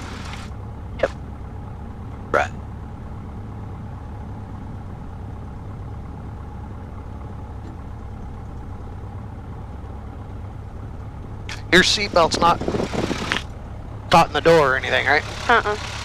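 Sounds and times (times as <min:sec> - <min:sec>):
airplane engine idling: 0:00.0 - 0:16.0.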